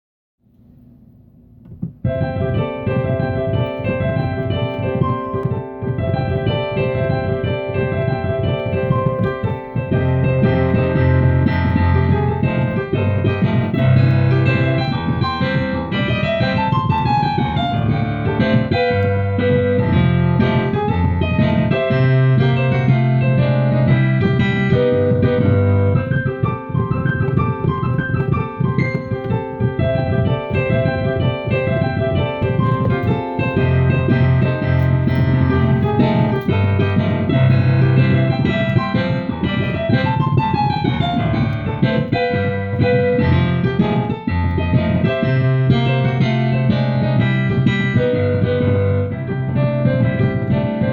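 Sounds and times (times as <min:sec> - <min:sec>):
piano-like keyboard music: 0:01.6 - 0:50.9.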